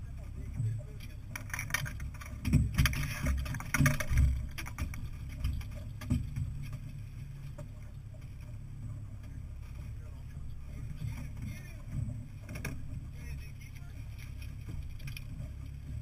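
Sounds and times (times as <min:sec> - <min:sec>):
boat engine low rumble: 0:00.0 - 0:16.0
knocks and clatter: 0:00.2 - 0:09.5, 0:10.4 - 0:13.3, 0:14.0 - 0:16.0.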